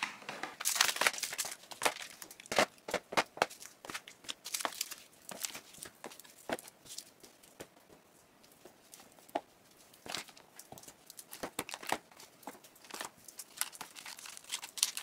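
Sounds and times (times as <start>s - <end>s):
packaging crinkling: 0.0s - 7.6s, 10.0s - 15.0s.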